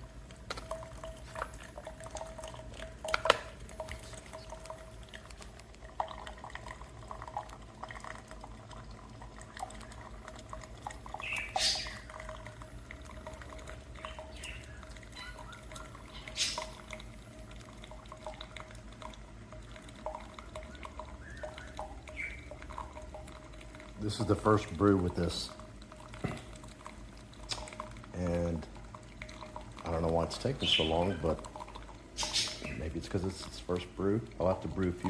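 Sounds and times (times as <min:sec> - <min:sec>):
coffee maker hum: 0:00.0 - 0:35.0
water dripping and sputtering: 0:00.0 - 0:35.0.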